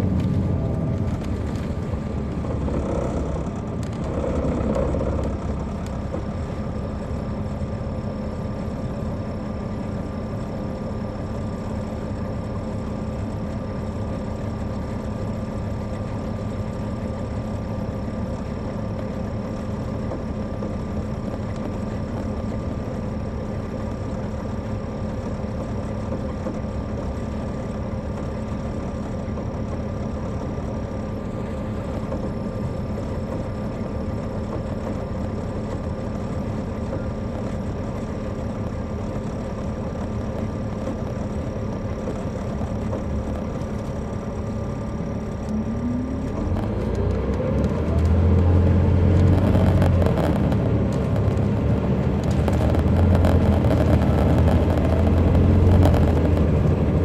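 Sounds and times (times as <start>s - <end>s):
bus diesel engine idling: 0.0s - 53.5s.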